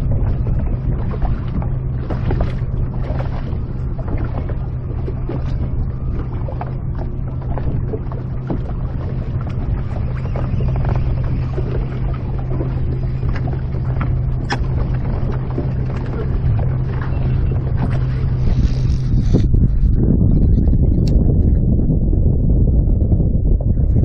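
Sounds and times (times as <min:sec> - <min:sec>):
electric boat motor humming: 0:00.0 - 0:19.5
wind buffeting microphone: 0:00.0 - 0:24.0.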